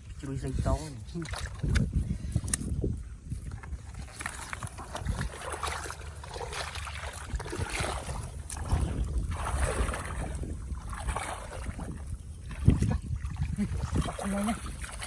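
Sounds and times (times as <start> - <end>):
shallow water sloshing and splashing: 0.0 - 15.0.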